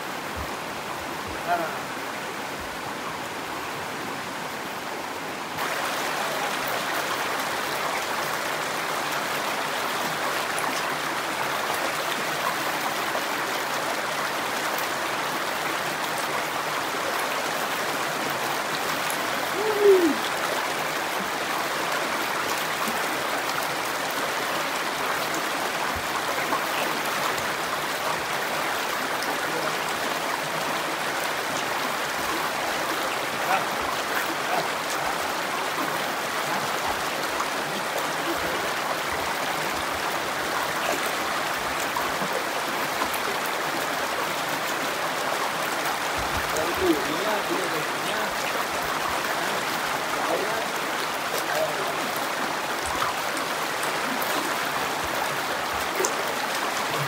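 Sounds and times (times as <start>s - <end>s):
stream rushing over rock: 0.0s - 57.0s.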